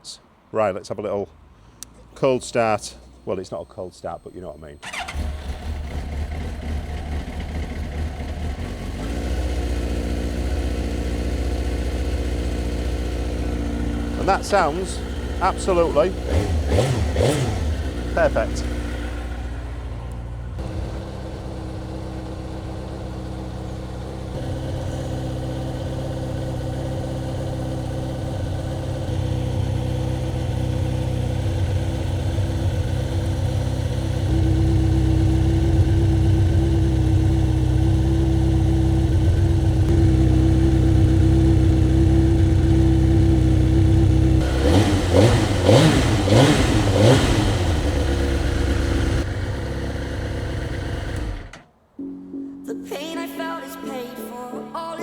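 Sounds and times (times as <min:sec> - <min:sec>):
motorcycle engine idling: 0:01.7 - 0:51.7
motorcycle engine revving: 0:04.3 - 0:51.7.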